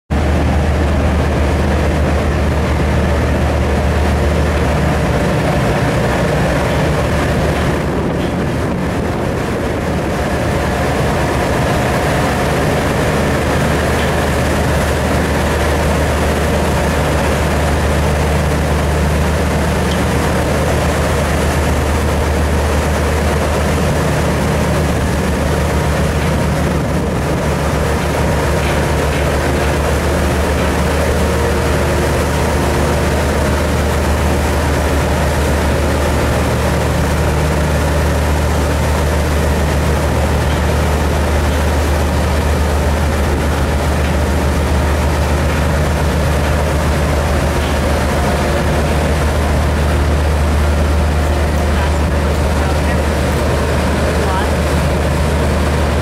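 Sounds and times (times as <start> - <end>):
diesel engines droning: 0.1 - 56.0.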